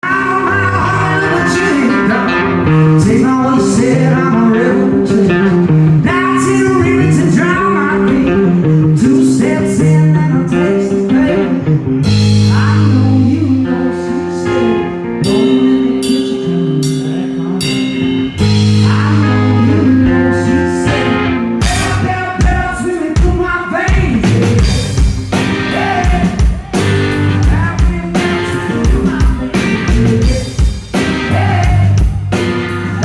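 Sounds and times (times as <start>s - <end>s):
blues rock band playing live: 0.0s - 33.0s
person singing: 0.0s - 33.0s.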